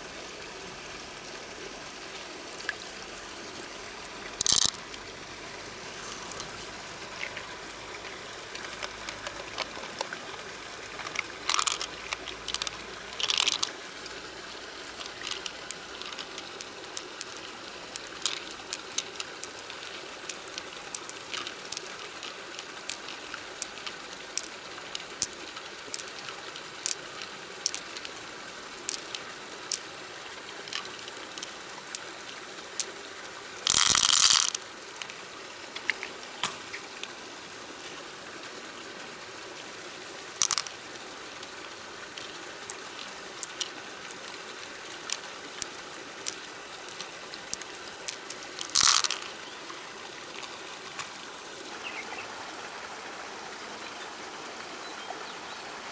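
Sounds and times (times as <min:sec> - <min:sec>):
river water trickling: 0:00.0 - 0:55.9.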